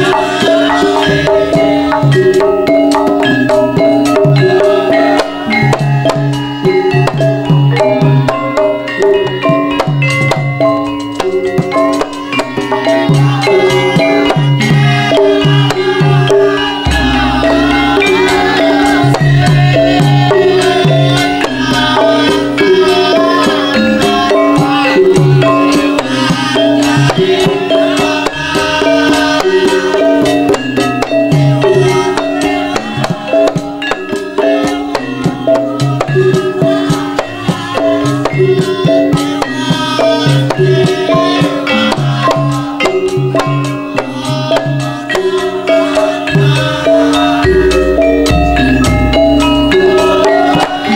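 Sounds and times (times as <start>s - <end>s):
hand drum strokes: 0.0s - 50.9s
metal-keyed instruments melody: 0.0s - 50.9s.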